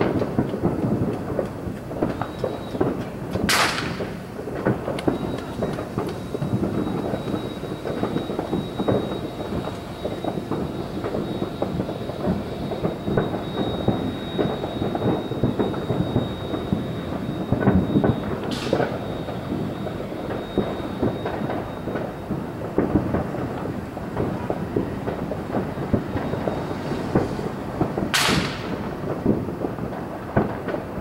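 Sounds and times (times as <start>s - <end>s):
distant fireworks booming: 0.0s - 31.0s.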